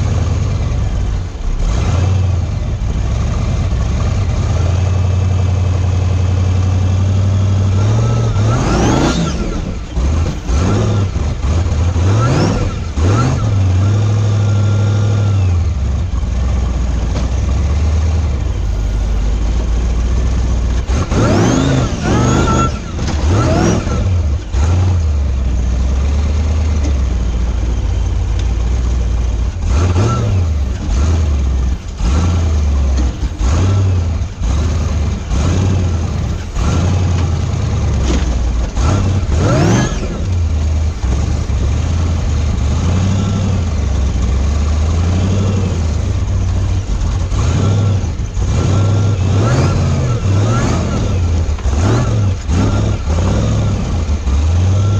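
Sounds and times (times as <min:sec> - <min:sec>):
buggy engine revving: 0:00.0 - 0:54.9.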